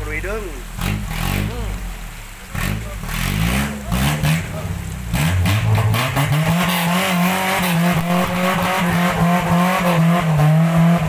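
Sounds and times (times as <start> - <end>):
engine at high revs: 0.7 - 11.0.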